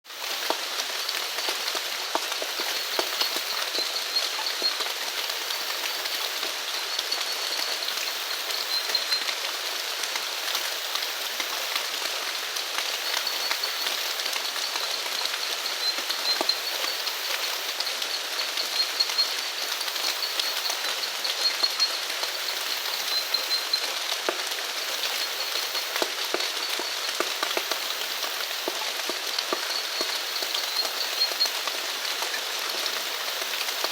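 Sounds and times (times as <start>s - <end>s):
steady rainfall: 0.0s - 33.9s.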